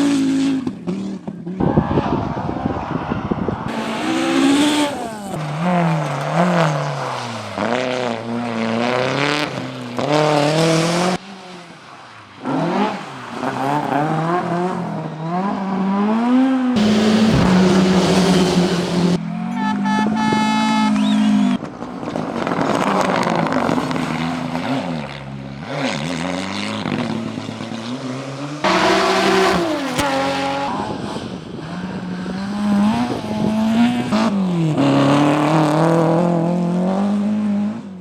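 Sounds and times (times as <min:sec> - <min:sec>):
rally car engines at high revs: 0:00.0 - 0:19.3, 0:20.9 - 0:38.0.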